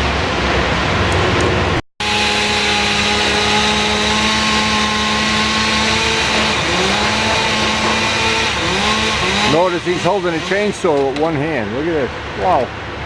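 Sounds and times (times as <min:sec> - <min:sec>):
petrol engine running at high speed: 0:00.0 - 0:11.1.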